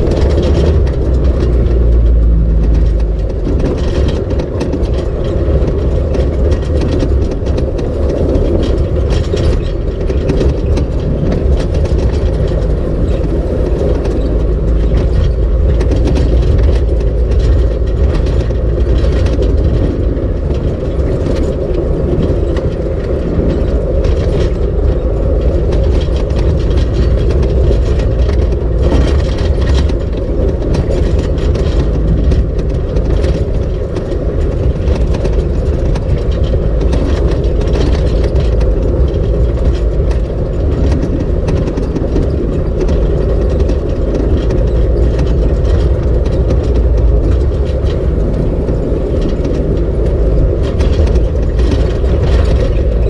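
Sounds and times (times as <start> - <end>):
clicks and rattles: 0.0 - 53.0
vehicle engine and tyres rumbling: 0.0 - 53.0.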